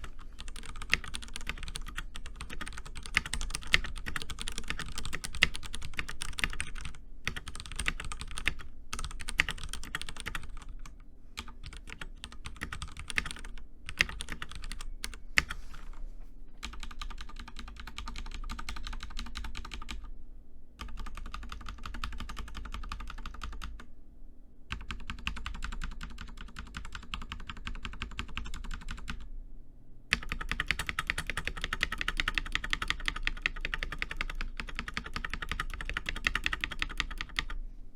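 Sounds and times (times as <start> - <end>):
mechanical keyboard typing: 0.0 - 15.9, 16.6 - 20.1, 20.8 - 23.8, 24.7 - 29.3, 30.1 - 37.6.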